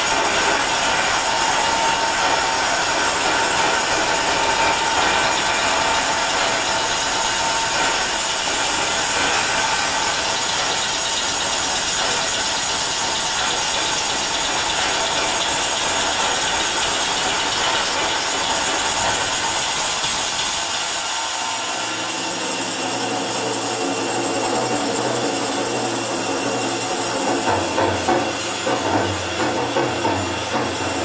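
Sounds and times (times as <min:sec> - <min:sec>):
mechanical clatter and whir: 0:00.0 - 0:31.0.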